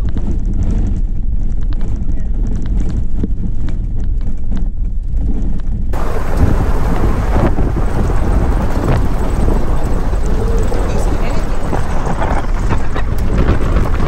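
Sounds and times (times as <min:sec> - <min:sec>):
truck rumbling off-road: 0:00.0 - 0:14.0
wind buffeting microphone: 0:00.0 - 0:14.0.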